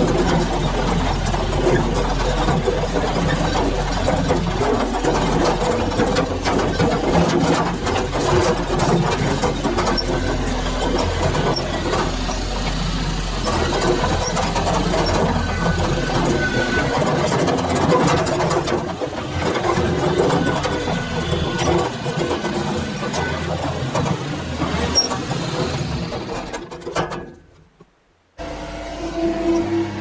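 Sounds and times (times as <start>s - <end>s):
excavator diesel engine running: 0.0s - 26.8s, 28.4s - 30.0s.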